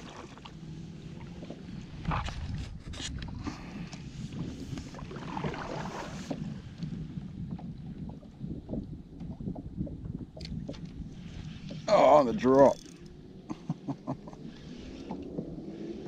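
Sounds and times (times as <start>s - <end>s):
water slapping against hull: 0.0s - 13.0s
wind buffeting microphone: 0.0s - 16.0s.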